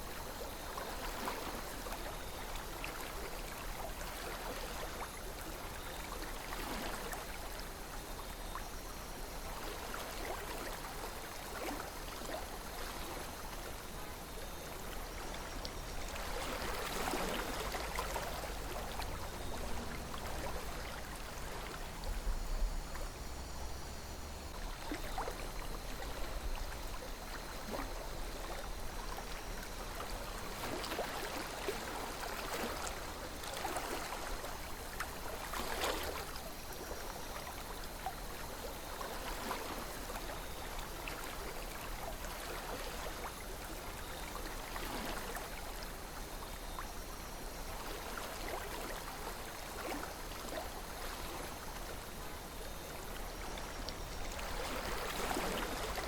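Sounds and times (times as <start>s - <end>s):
river flowing: 0.0s - 56.0s
water gurgles and splashes: 0.0s - 56.0s.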